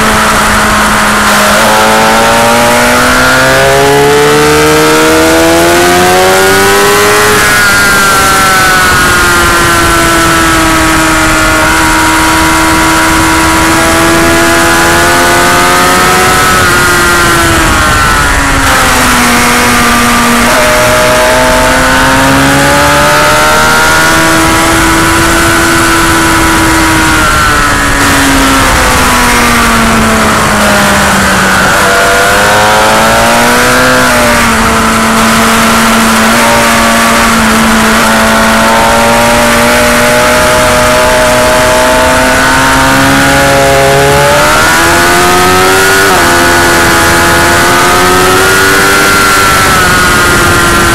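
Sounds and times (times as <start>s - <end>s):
heavy wind noise: 0.0s - 50.9s
motorcycle engine running hard: 0.0s - 50.9s.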